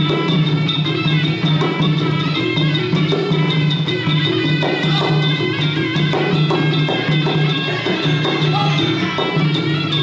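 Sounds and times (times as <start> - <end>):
hand drums: 0.0 - 10.0
reed pipe melody: 0.0 - 10.0.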